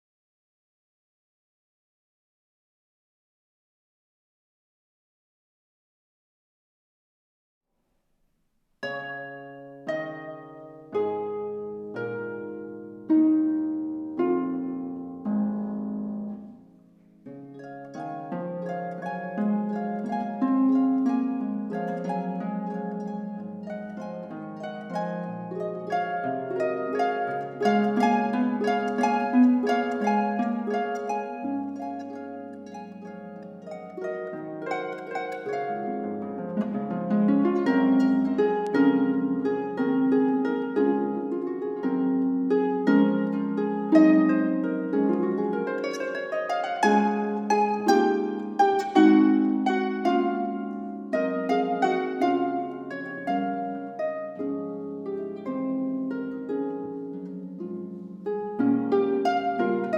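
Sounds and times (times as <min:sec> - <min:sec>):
solo harp melody: 0:08.8 - 0:59.9.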